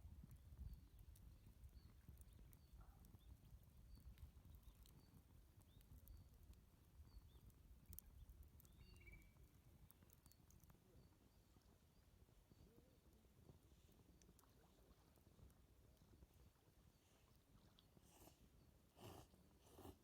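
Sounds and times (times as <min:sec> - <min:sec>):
campfire crackling: 0:00.0 - 0:16.6.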